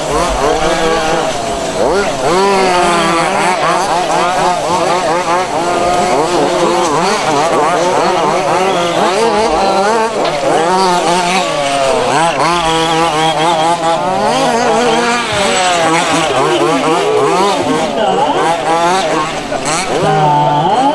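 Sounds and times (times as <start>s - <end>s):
small two-stroke engines revving: 0.0s - 20.9s.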